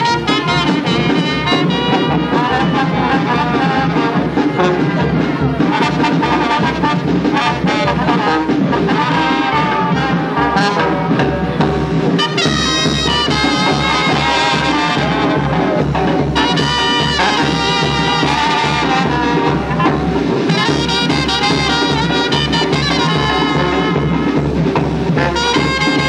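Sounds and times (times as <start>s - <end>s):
marching brass band playing: 0.0s - 26.0s.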